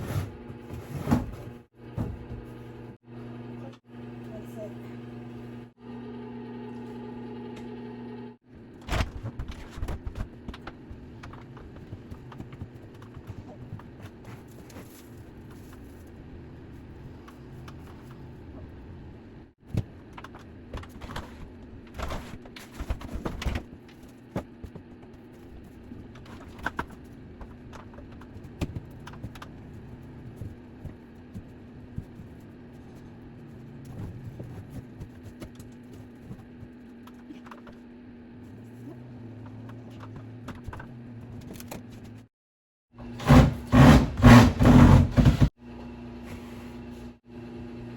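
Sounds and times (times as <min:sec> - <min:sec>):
low background hum: 0:00.0 - 0:42.3.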